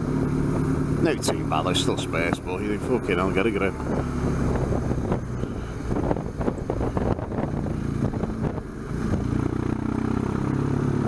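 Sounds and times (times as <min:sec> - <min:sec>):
motorcycle engine running: 0:00.0 - 0:11.0
wind rushing over microphone: 0:00.6 - 0:09.8.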